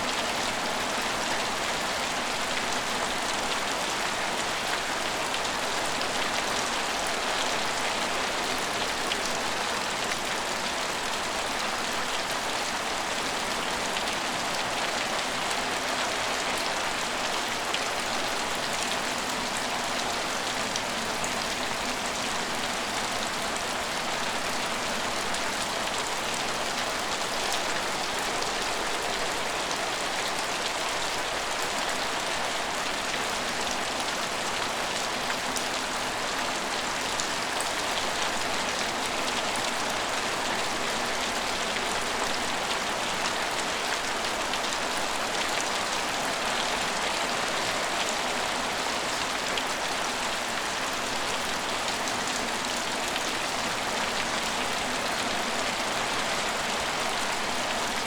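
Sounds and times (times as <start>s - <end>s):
rain falling on hard surfaces: 0.0s - 58.0s.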